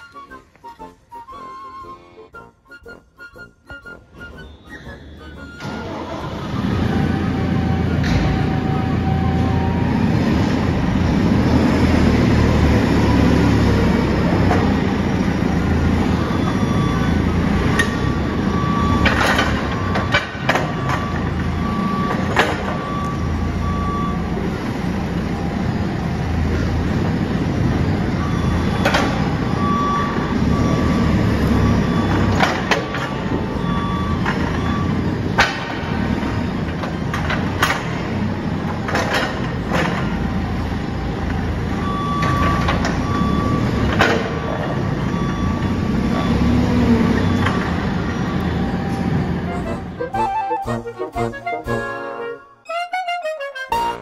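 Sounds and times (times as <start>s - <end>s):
beeping alarm: 0.0s - 10.8s, 12.5s - 24.5s, 28.1s - 53.0s
diesel engine running: 4.5s - 51.6s.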